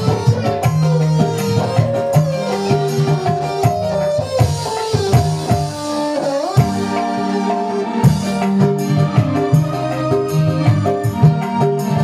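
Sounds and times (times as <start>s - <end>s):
electronic keyboard melody: 0.0s - 12.0s
hand drum beat: 0.0s - 12.0s.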